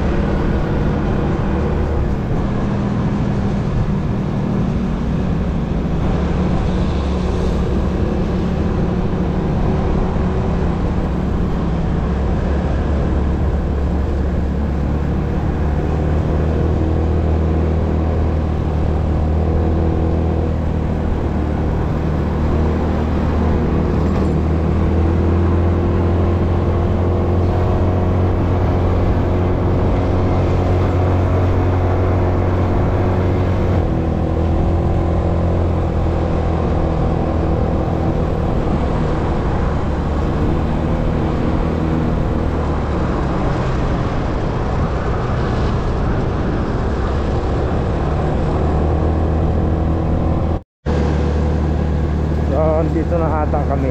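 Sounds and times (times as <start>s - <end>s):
road rumble: 0.0s - 53.9s
vehicle engine drone: 0.0s - 53.9s.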